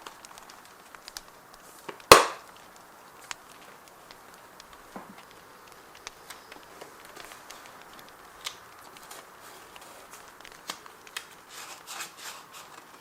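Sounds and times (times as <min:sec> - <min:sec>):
crackling bonfire: 0:00.0 - 0:13.0
paper crinkling: 0:00.0 - 0:13.0.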